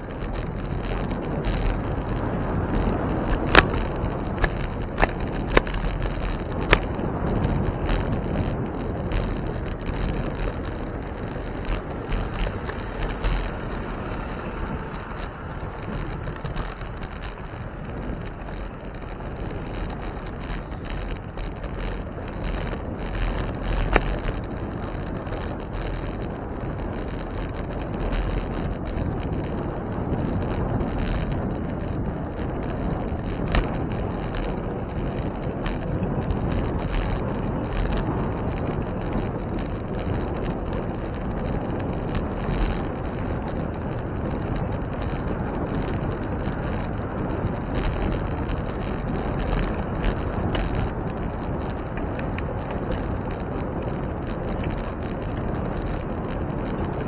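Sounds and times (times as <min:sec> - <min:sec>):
road and tyre rumble: 0:00.0 - 0:57.0
wind buffeting microphone: 0:00.0 - 0:57.0.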